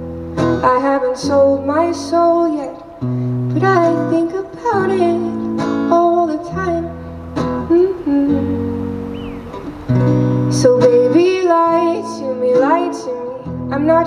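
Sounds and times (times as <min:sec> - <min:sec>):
acoustic guitar strumming: 0:00.0 - 0:14.0
woman singing: 0:00.6 - 0:09.0, 0:10.5 - 0:14.0.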